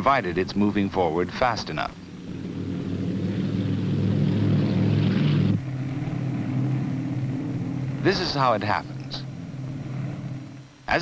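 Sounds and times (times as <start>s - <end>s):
lower propeller airliner drone: 0.0s - 11.0s
propeller airliner drone: 0.0s - 11.0s.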